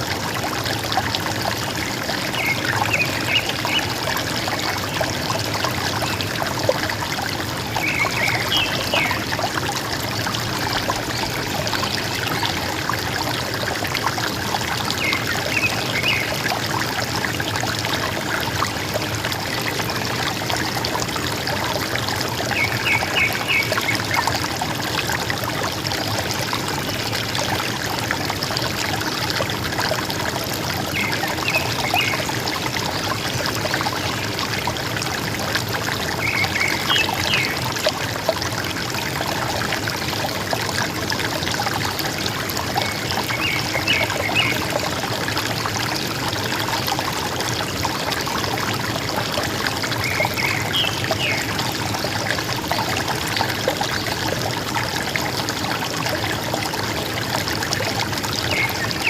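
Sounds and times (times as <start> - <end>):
river water gurgling: 0.0 - 59.0.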